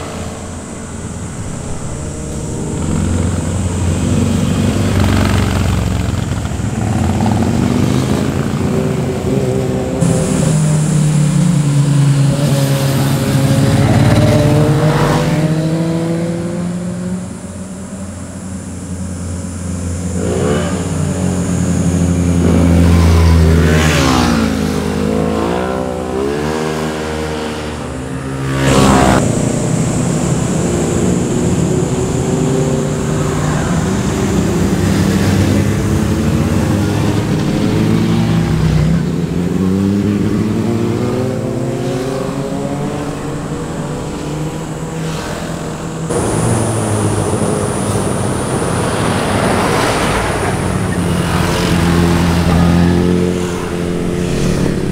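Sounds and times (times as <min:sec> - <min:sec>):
motorcycle engine revving: 0:00.0 - 0:54.9
motorcycle engines passing: 0:00.0 - 0:54.9.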